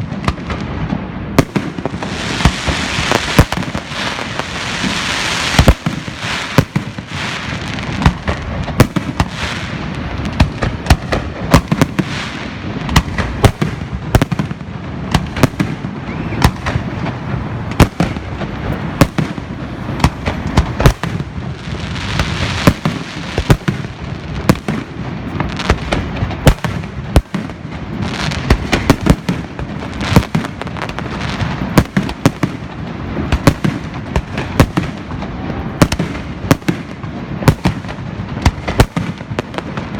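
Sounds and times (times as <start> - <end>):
crackling hiss of fireworks: 0.0 - 39.9
fireworks bangs: 0.0 - 39.9.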